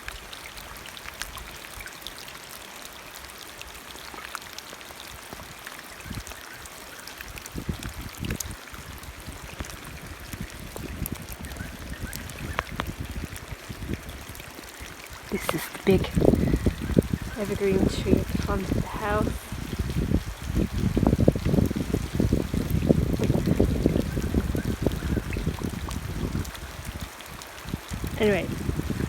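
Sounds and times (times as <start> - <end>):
water drips: 0.0 - 29.0
water trickling into pond: 0.0 - 29.0.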